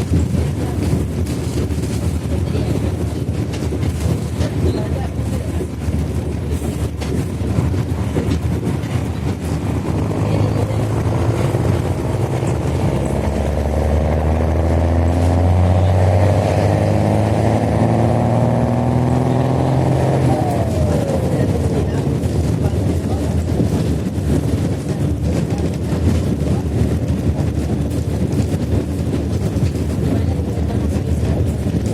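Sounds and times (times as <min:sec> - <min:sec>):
bus engine accelerating: 0:00.0 - 0:31.9.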